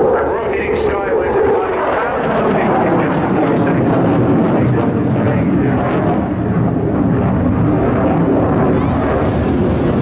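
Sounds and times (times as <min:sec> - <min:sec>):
distant jet engine roar: 0:00.0 - 0:10.0.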